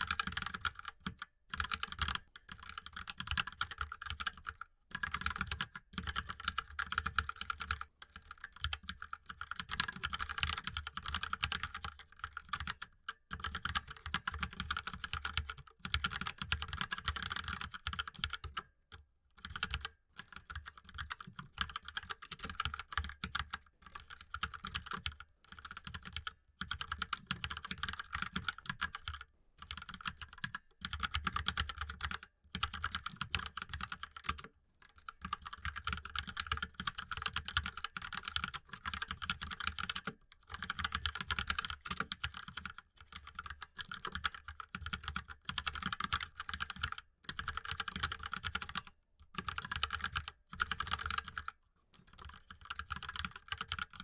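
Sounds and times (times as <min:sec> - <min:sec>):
mechanical keyboard typing: 0:00.0 - 0:18.7, 0:19.4 - 0:51.5, 0:52.1 - 0:54.0.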